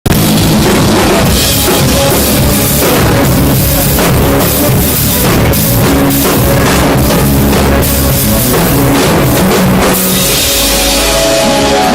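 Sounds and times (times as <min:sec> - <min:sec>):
live rock band playing: 0:00.0 - 0:11.9.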